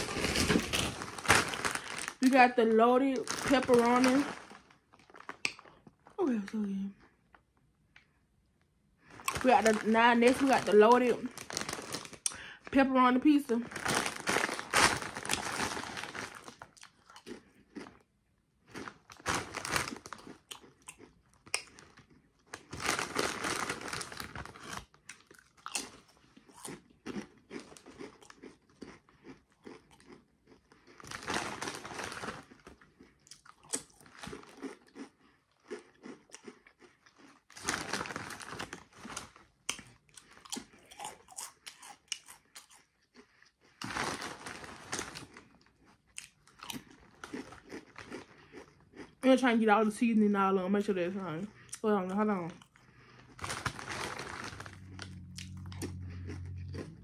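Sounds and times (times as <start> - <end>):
chips crunching: 0.0 - 6.1, 9.1 - 12.5, 13.4 - 49.2, 51.8 - 57.0
snack bag rustling: 0.0 - 6.2, 9.0 - 12.5, 13.3 - 18.0, 18.6 - 49.2, 52.6 - 57.0.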